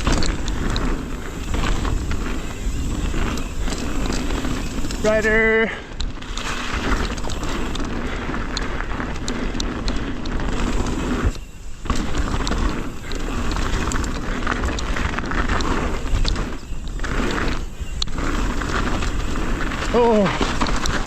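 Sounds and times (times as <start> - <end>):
bike clicks and rattles: 0.0 - 21.0
bike tyres on dirt trail: 0.0 - 21.0
wind noise: 0.0 - 21.0.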